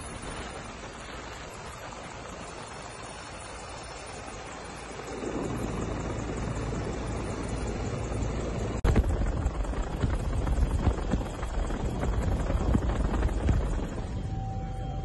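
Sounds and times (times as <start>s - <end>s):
helicopter rotor and turbine engine: 0.0s - 15.0s.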